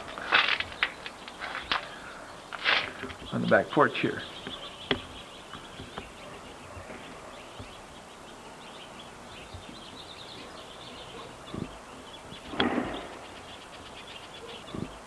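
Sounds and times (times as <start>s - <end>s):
small birds chirping: 0.0s - 15.0s
steady background hiss: 0.0s - 15.0s.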